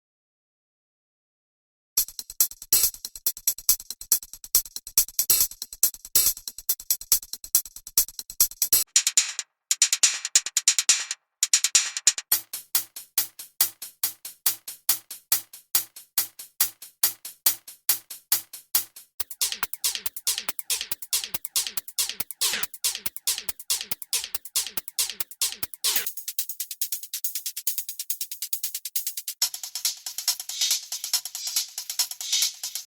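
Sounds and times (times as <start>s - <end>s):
drum machine hi-hat ticks: 2.0s - 32.9s.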